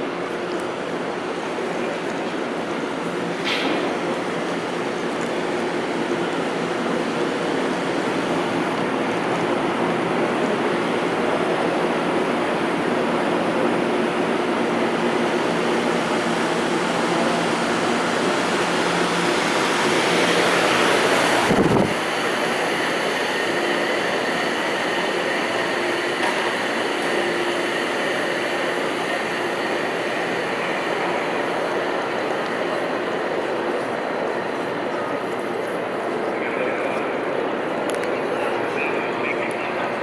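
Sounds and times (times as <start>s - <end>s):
subway rumble: 0.0s - 40.0s.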